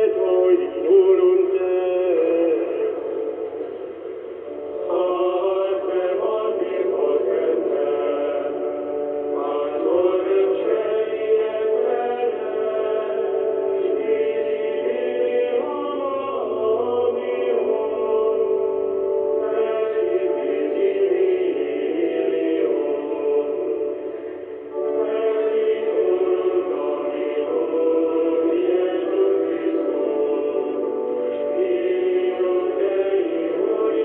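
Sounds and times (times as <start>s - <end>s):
choir singing over am radio: 0.0s - 34.0s.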